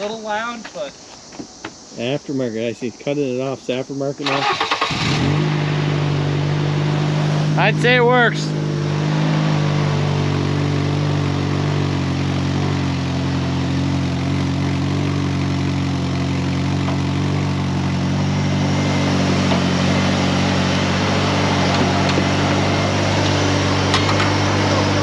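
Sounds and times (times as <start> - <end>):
engine idling loudly: 4.2 - 25.0.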